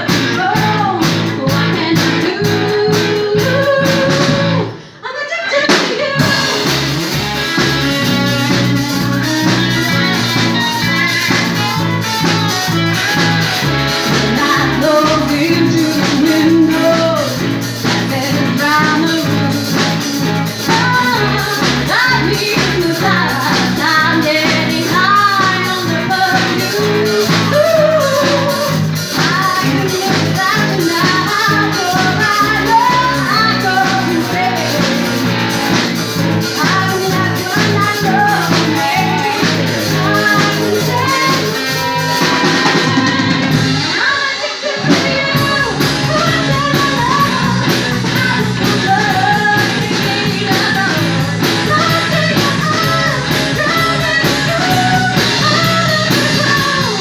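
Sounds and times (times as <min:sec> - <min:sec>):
live band playing: 0:00.0 - 0:57.0
person singing: 0:00.0 - 0:57.0.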